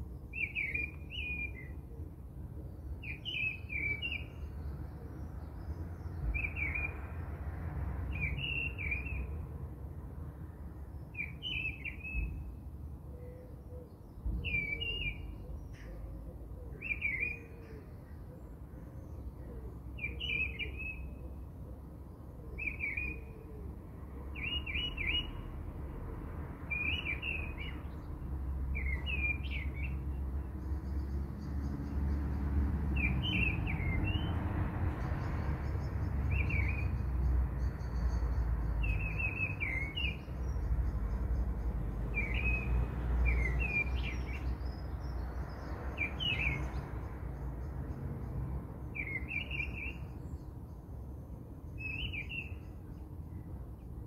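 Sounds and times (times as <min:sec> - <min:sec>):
small songbird chirping: 0:00.0 - 0:09.6, 0:10.6 - 0:23.6, 0:24.2 - 0:25.7, 0:26.6 - 0:54.0.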